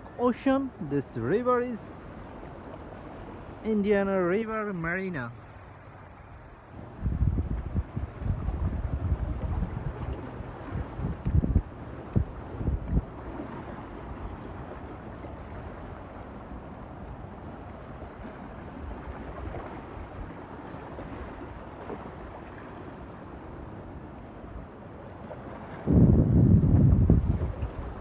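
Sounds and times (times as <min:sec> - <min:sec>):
ocean water rushing: 0:00.0 - 0:28.0
wind: 0:00.0 - 0:28.0.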